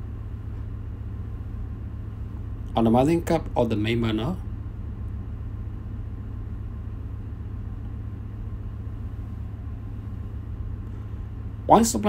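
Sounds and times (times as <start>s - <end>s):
engine room machinery drone: 0.0s - 12.0s.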